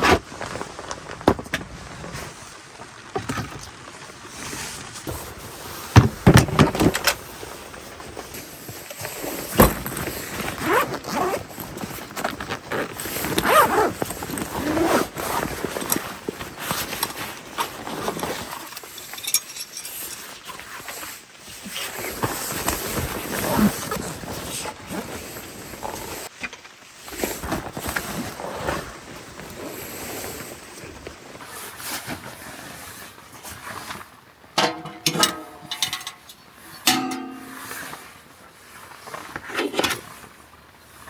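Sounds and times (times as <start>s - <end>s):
camping gear rustling and knocking: 0.0s - 21.1s, 21.7s - 41.0s.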